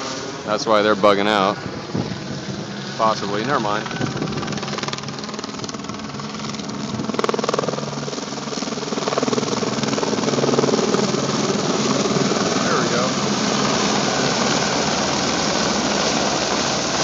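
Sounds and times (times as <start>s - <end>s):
helicopter rotor beating: 0.0s - 17.0s.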